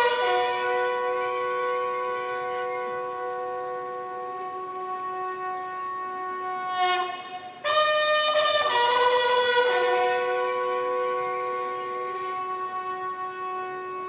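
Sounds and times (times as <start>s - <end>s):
brass bugles holding notes: 0.0s - 14.0s.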